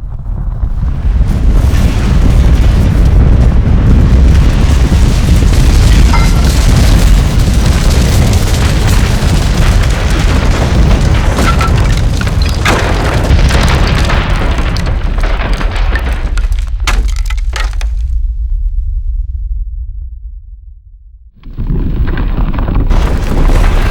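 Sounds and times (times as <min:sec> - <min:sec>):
deep earthquake rumble: 0:00.0 - 0:23.9
cracking and crashing debris: 0:01.0 - 0:18.2, 0:21.4 - 0:23.9.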